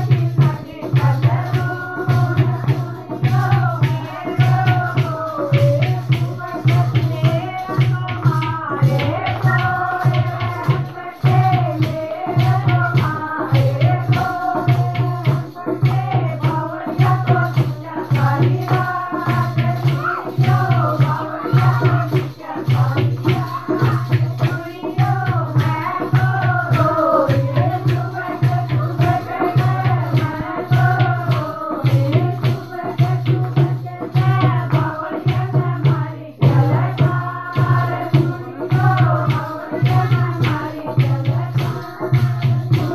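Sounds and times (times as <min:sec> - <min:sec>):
rattling jingling percussion: 0:00.0 - 0:42.9
steady drum beat: 0:00.0 - 0:42.9
women singing together: 0:00.0 - 0:42.9.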